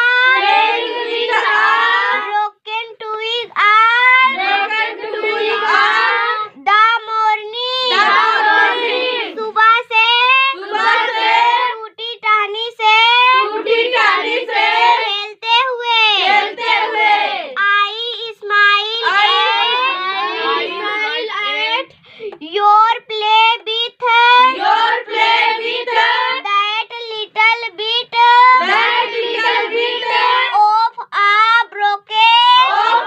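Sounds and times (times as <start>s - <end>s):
girl reciting in sing-song chant: 0.0s - 33.0s.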